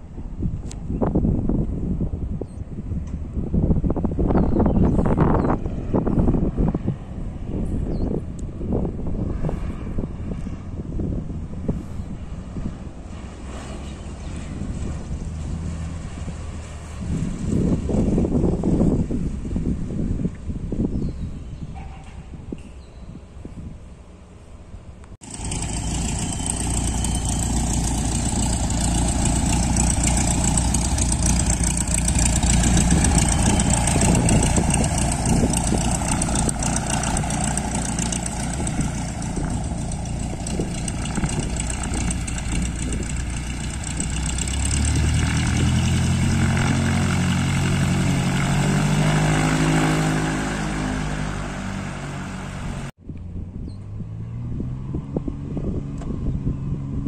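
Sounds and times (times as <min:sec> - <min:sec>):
propeller plane engine running: 0:00.0 - 0:21.4, 0:23.4 - 0:53.8.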